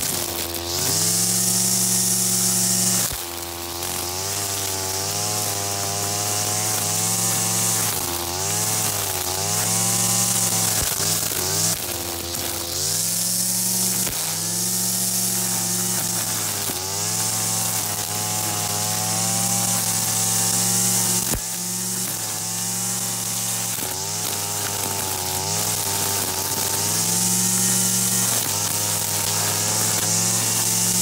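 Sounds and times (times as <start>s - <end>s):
brushcutter cutting grass: 0.0s - 31.0s.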